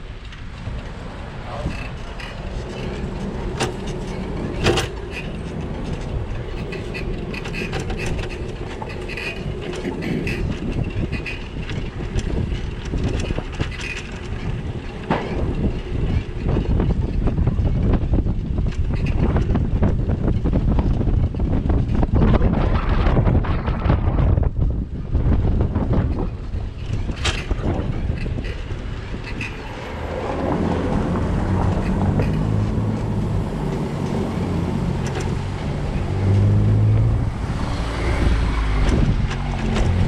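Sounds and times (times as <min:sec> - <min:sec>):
bike rattling over bumps: 0:00.0 - 0:40.0
road and wind rumble: 0:00.0 - 0:40.0.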